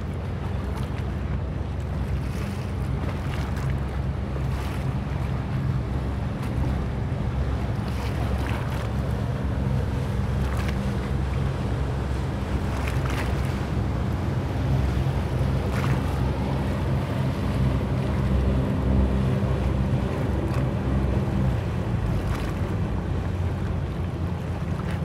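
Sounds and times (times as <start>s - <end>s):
boat diesel engine passing: 0.0s - 25.0s
water splashes: 0.0s - 25.0s.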